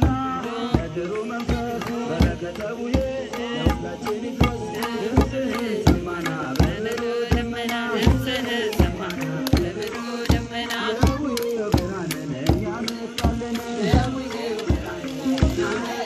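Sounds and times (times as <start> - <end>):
drum beating steadily: 0.0 - 16.0
group of voices singing: 0.0 - 16.0.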